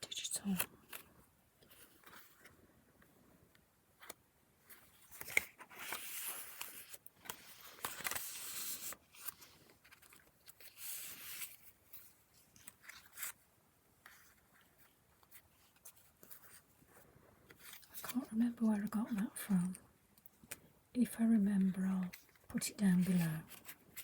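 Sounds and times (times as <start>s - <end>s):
paper pages rustling: 0.4s - 2.6s, 4.0s - 20.6s, 22.0s - 24.0s.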